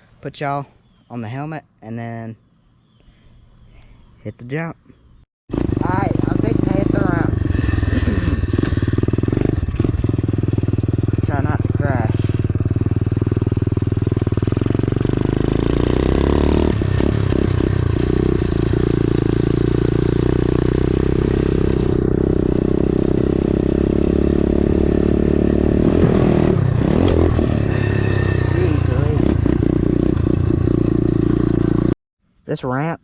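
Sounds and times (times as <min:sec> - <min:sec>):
dirt bike engine revving: 0:05.5 - 0:32.0.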